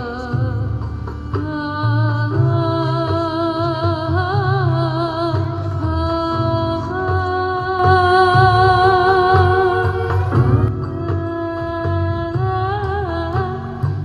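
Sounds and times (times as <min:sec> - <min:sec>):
low pulsing accompaniment: 0:00.0 - 0:14.0.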